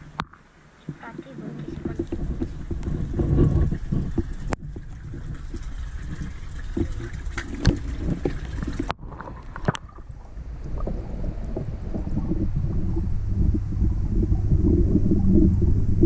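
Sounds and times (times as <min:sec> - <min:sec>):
wind buffeting microphone: 0:01.0 - 0:16.0.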